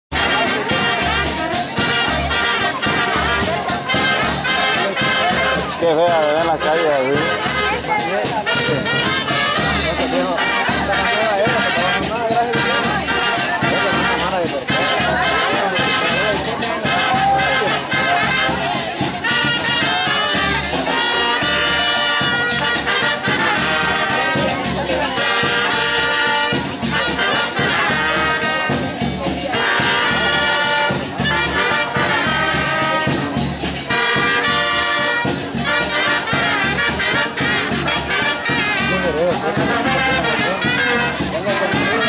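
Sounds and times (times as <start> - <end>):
brass band playing: 0.1 - 42.0.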